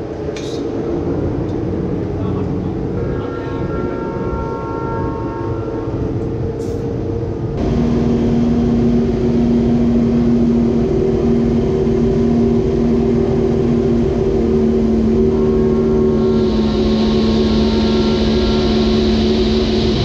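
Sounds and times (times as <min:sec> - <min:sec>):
racing motorcycle engine drone: 0:00.0 - 0:20.0.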